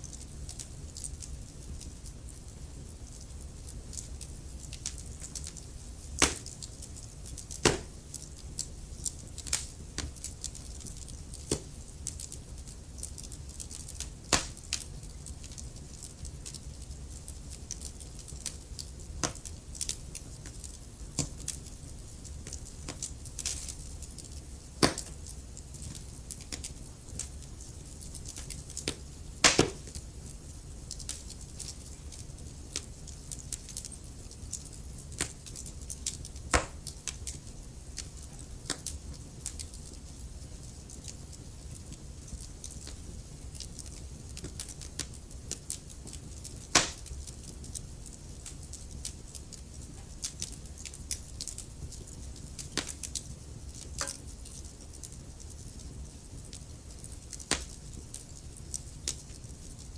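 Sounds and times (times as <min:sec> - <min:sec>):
burning logs crackling: 0:00.0 - 0:59.9
low rumble of fire: 0:00.0 - 0:59.9
sharp pops of fire: 0:03.2 - 0:59.8.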